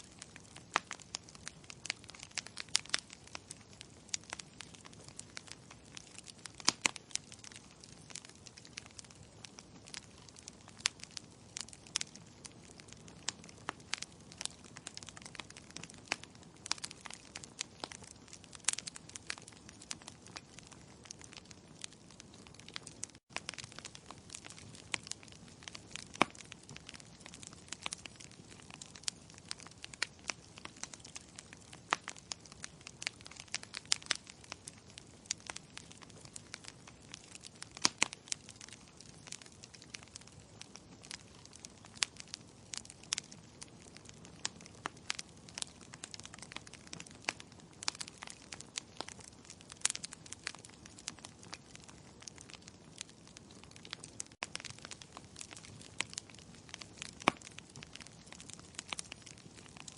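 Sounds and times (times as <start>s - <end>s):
logs crackling and popping in fire: 0.0s - 59.9s.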